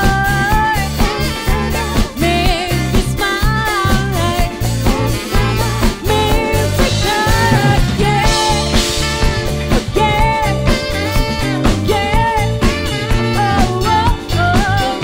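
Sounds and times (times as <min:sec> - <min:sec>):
live band playing: 0:00.0 - 0:15.0
saxophone: 0:00.0 - 0:15.0
woman singing: 0:00.0 - 0:15.0.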